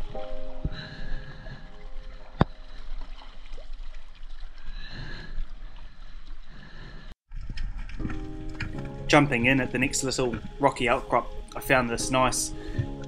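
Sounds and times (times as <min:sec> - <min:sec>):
paddle strokes splashing water: 0:00.0 - 0:13.0.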